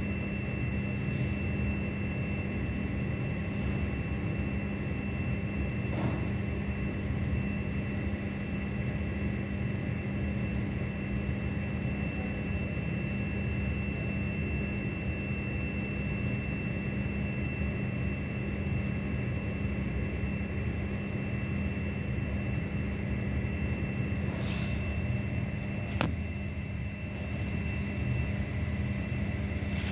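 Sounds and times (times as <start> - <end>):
faint high whine: 0.0 - 29.9.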